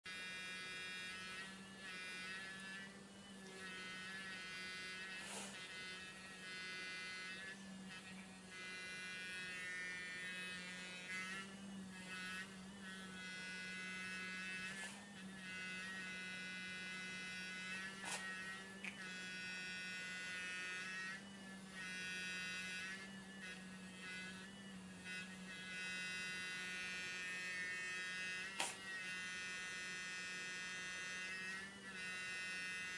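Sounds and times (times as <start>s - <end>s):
electric toothbrush humming: 0.0s - 32.9s.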